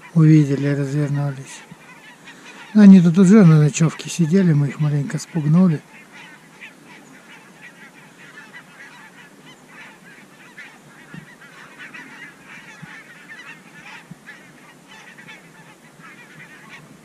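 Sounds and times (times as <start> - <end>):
geese honking in flight: 0.0 - 17.0.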